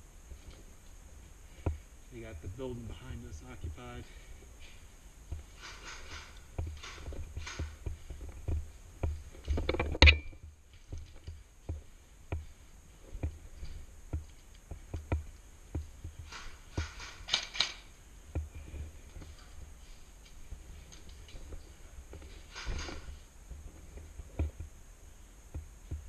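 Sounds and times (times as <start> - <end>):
rustling of gear: 2.6 - 24.8.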